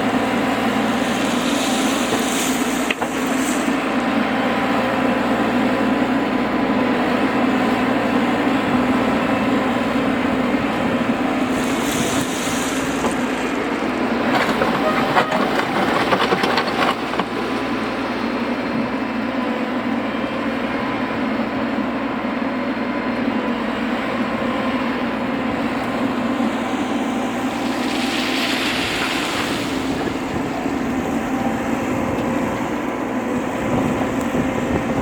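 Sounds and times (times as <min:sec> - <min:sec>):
heavy machinery engine drone: 0:00.0 - 0:35.0.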